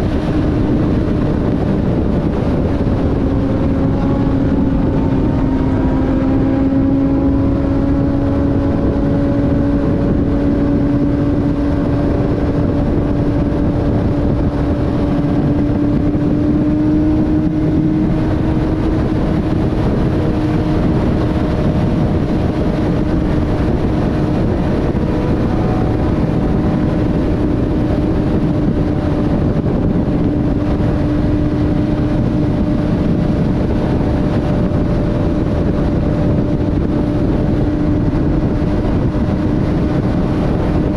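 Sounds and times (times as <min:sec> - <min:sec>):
heavy wind noise: 0:00.0 - 0:40.9
motorcycle engine cruising: 0:00.0 - 0:40.9.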